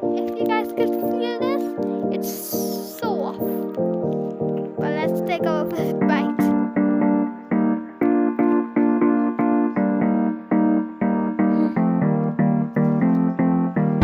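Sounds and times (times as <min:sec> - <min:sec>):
piano-like keyboard melody: 0:00.0 - 0:14.0.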